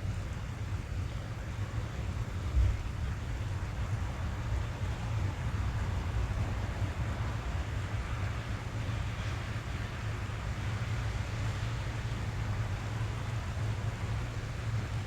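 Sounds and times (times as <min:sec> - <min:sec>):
rain drumming on car roof: 0:00.1 - 0:15.0.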